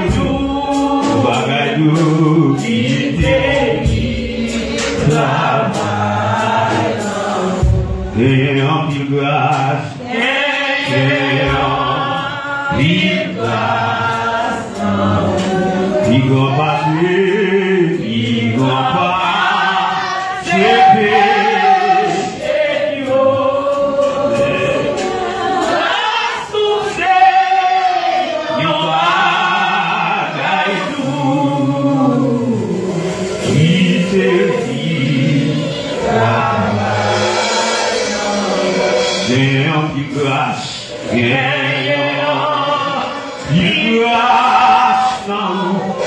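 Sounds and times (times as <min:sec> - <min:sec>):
choir singing a hymn: 0:00.0 - 0:46.0.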